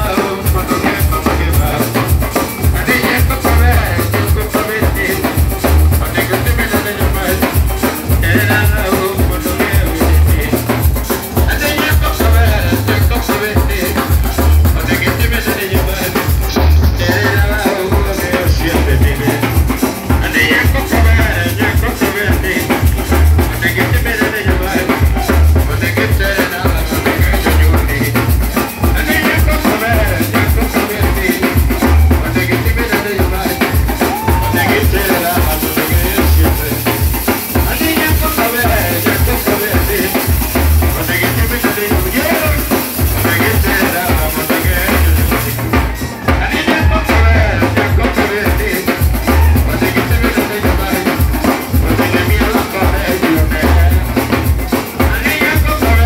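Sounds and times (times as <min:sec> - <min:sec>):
club music with heavy bass beat: 0:00.0 - 0:56.0.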